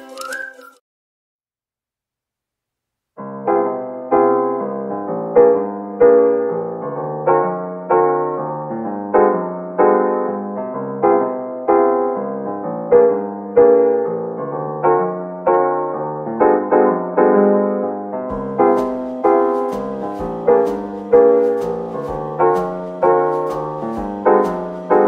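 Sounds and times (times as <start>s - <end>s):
gentle piano music: 3.2s - 25.0s.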